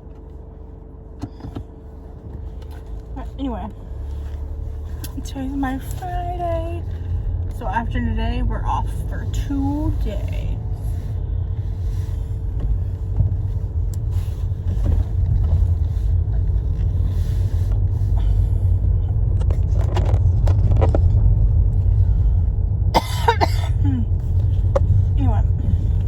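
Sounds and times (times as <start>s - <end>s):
car engine idling: 0.0s - 26.0s
faint steady hum: 0.0s - 26.0s.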